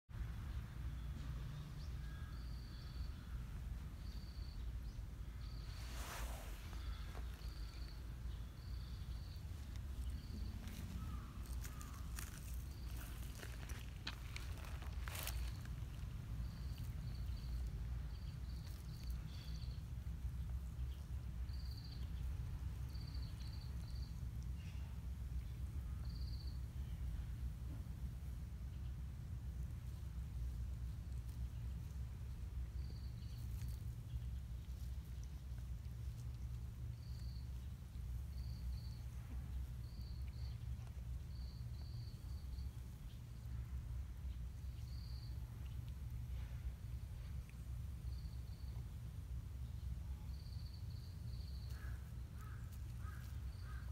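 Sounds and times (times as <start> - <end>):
low steady rumble: 0.1 - 53.9
small bird chirping: 0.9 - 27.3, 28.6 - 53.9.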